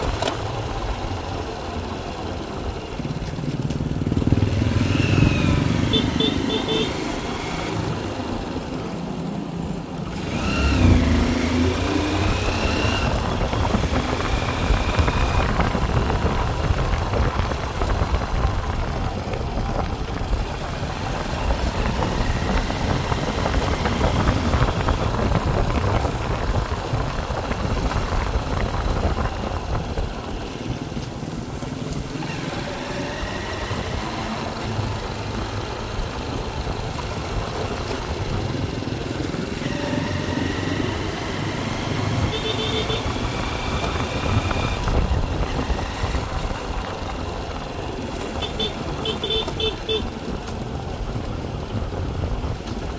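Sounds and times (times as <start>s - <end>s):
road noise: 0.0s - 52.9s
vehicle engine: 0.0s - 52.9s.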